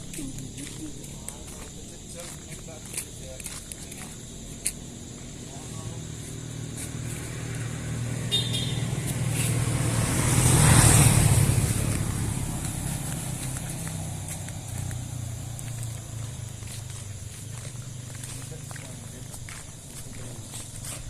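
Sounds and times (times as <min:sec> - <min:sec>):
motor vehicle passing: 0:00.0 - 0:21.0.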